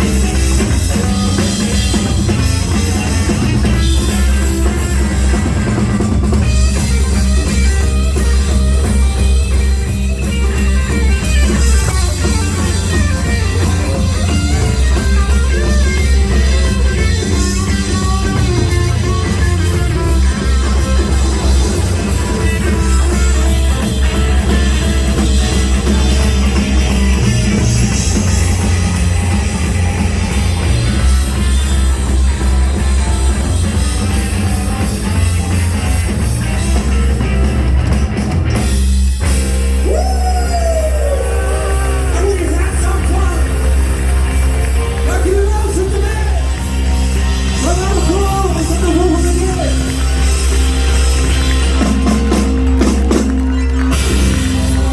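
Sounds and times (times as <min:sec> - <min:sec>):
bass guitar: 0:00.0 - 0:54.9
drum kit: 0:00.0 - 0:54.9
electric guitar lines: 0:00.0 - 0:54.9.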